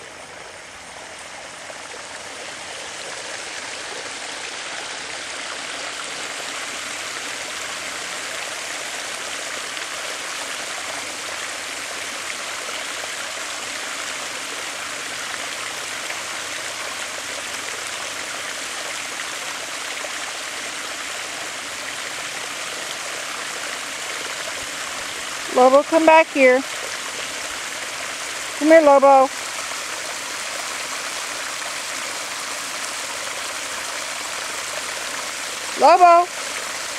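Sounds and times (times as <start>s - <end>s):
water rushing over spillway: 0.0s - 36.9s.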